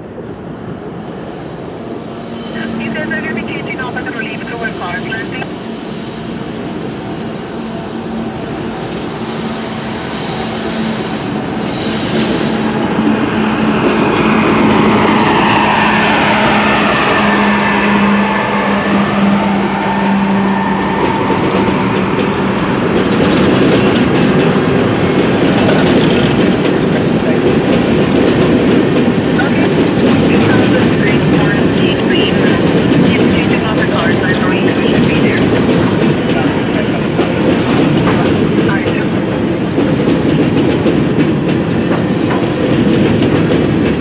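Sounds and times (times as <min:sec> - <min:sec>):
diesel locomotive engine hum: 0:00.0 - 0:44.0
train wheels clickety-clack on rails: 0:03.8 - 0:44.0.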